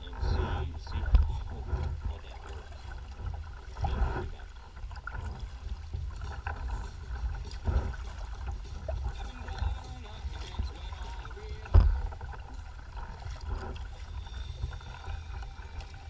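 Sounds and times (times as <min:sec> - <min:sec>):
water splashing against hull: 0:00.0 - 0:16.0
wind buffeting microphone: 0:00.0 - 0:16.0.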